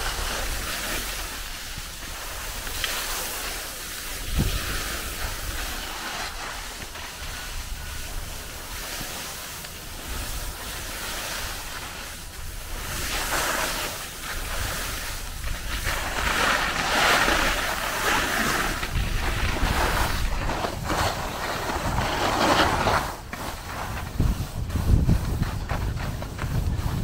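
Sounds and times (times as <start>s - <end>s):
wind on microphone: 0.0s - 9.0s, 14.2s - 27.0s
skis scraping over snow: 0.0s - 27.0s.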